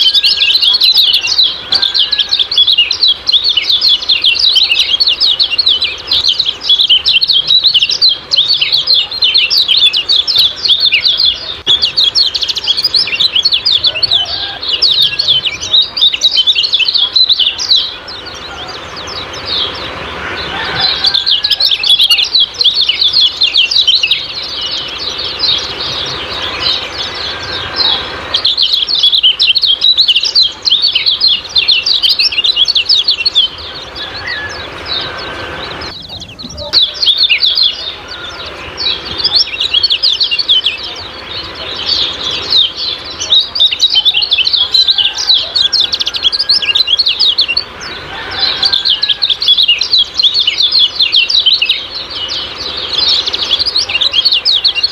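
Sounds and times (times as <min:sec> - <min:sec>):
bird chirping rapidly: 0:00.0 - 0:54.9.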